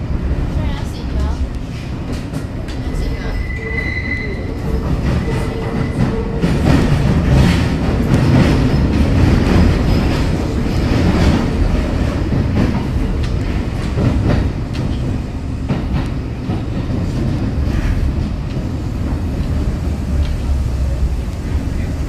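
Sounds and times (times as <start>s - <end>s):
train rumbling in a tunnel: 0.0s - 22.0s.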